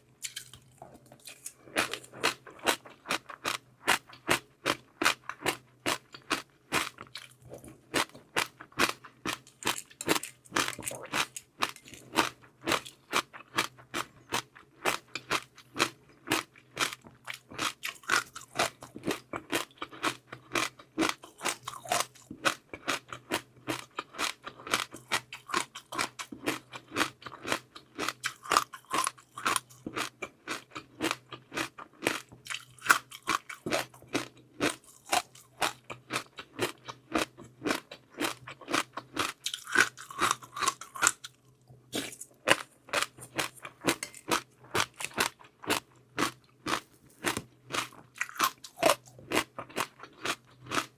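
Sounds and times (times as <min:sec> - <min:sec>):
crunchy chewing: 0:00.2 - 0:50.9.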